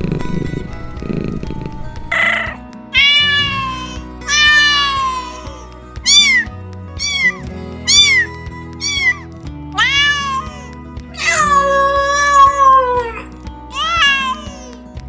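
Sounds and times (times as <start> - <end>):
background music: 0.0 - 15.0
cat meowing: 2.1 - 9.2, 9.8 - 14.8.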